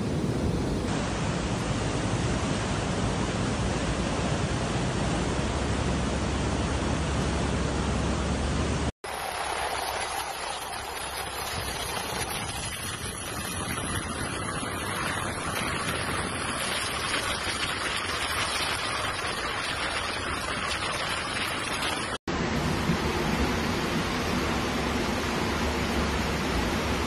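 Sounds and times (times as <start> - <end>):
flood torrent rushing: 0.0 - 27.0.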